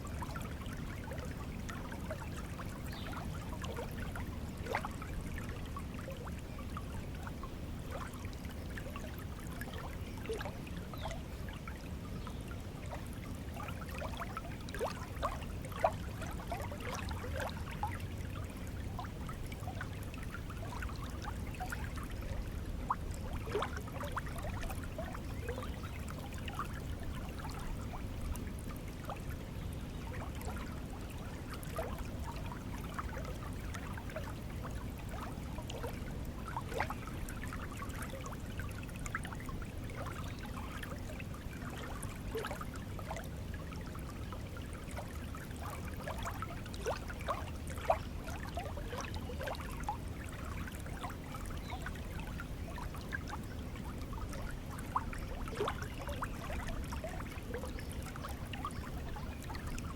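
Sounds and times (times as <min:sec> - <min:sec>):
shallow stream flowing: 0:00.0 - 0:59.9.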